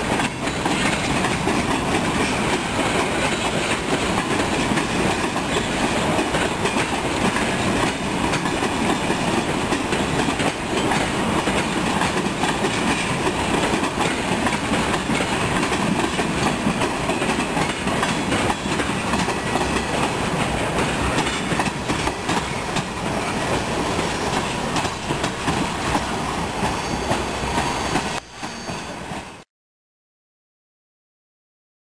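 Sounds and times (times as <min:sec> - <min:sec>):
freight train wheels rumbling on rail: 0:00.0 - 0:29.4.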